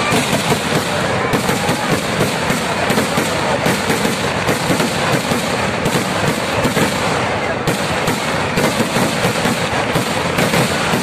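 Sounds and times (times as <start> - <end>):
fireworks rapid bangs and crackling: 0.0 - 11.0.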